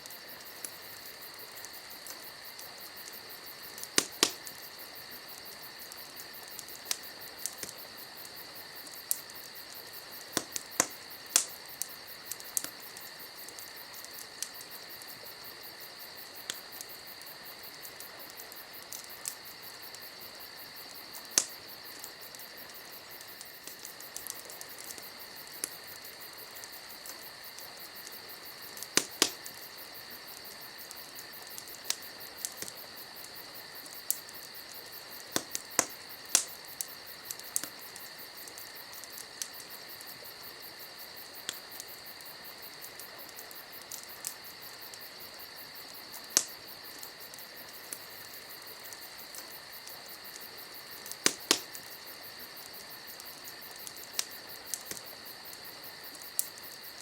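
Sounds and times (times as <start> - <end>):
campfire crackling and popping: 0.0 - 57.0
crickets chirring: 0.0 - 57.0.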